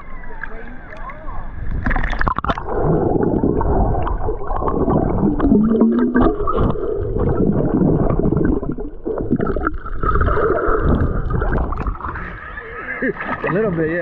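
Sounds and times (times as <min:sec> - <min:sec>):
underwater water churning: 0:00.0 - 0:14.0.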